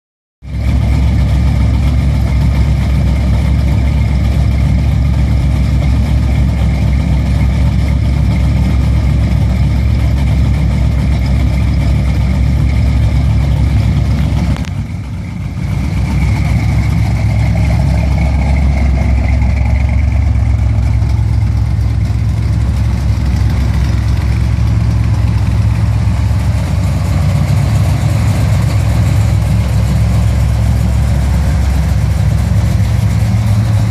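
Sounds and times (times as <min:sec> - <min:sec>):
engines idling: 0:00.4 - 0:33.9.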